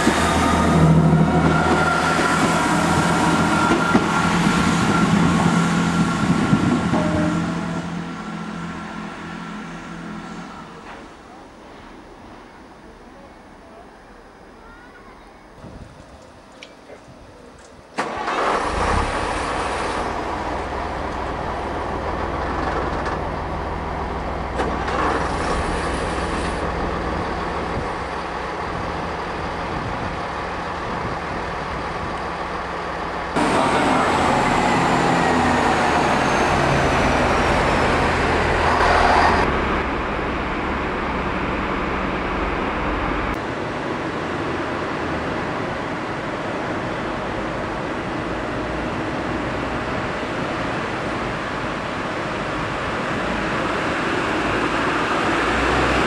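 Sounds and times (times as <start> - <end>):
diesel railcar engines running: 0.0 - 56.0.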